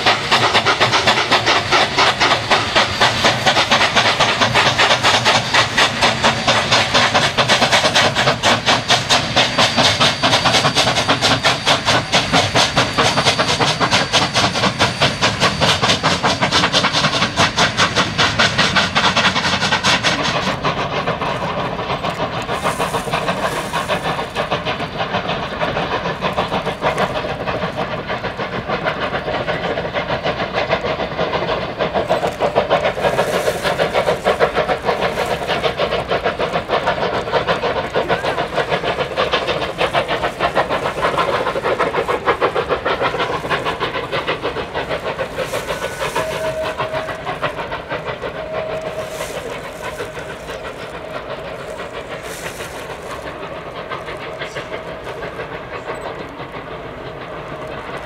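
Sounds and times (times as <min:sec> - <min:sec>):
steam hissing: 0:00.0 - 0:58.0
steam locomotive chuffing: 0:00.0 - 0:58.0.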